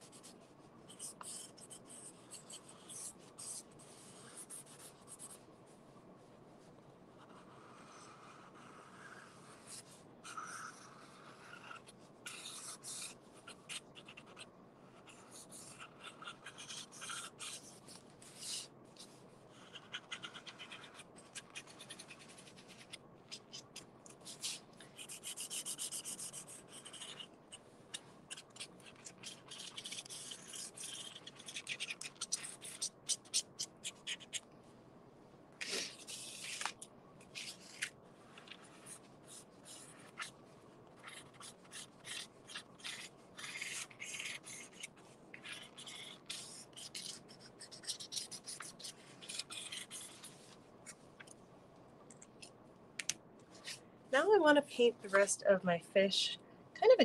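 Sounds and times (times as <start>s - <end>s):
marker scratching on cardboard: 0.0s - 5.4s, 7.2s - 27.6s, 28.3s - 34.4s, 35.6s - 40.3s, 41.0s - 51.0s.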